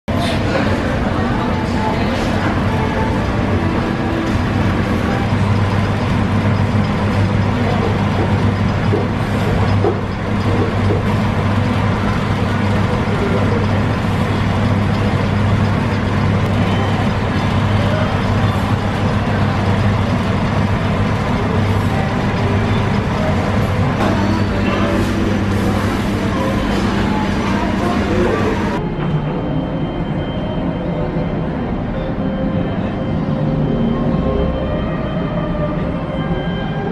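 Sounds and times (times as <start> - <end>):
indistinct voices: 0.1 - 36.9
low machine hum: 0.1 - 36.9.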